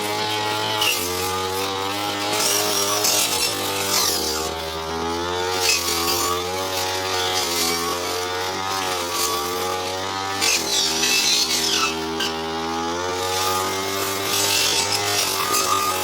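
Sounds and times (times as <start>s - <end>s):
brush cutter engine running: 0.0s - 16.0s.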